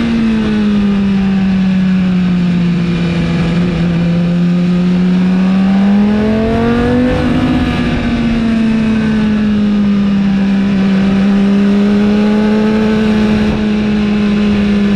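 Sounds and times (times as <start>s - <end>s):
motorcycle engine revving: 0.0s - 14.9s
wind and road noise: 0.0s - 14.9s.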